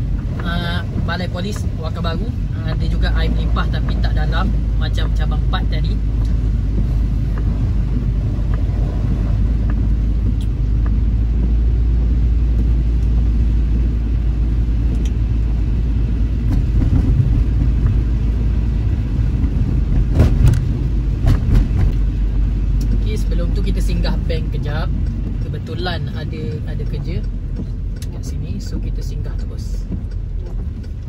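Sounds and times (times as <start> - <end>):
car driving on wet road: 0.0 - 31.0.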